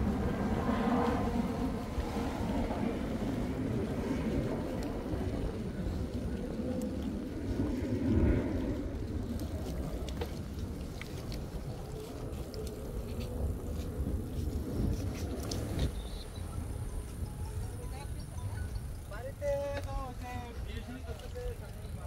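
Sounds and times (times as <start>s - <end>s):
wind and road rumble: 0.0s - 22.0s.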